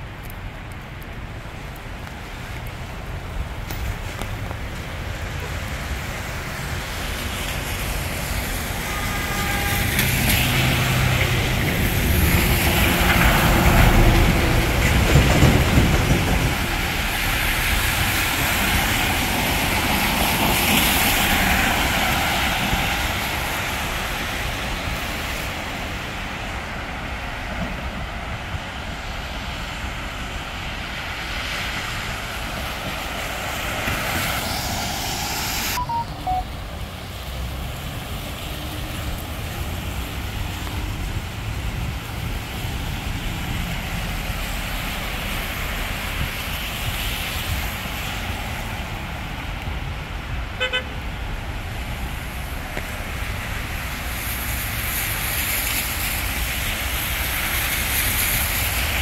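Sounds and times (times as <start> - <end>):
street noise: 0.0 - 59.0
tyres hissing on wet road: 0.0 - 59.0.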